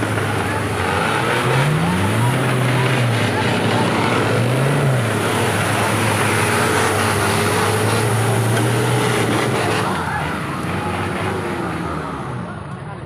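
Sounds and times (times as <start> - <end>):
truck engine running at high revs: 0.0 - 13.0.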